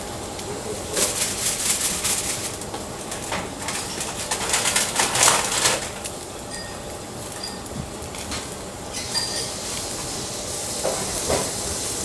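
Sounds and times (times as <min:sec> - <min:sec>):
eel sizzling over charcoal: 0:00.0 - 0:12.0.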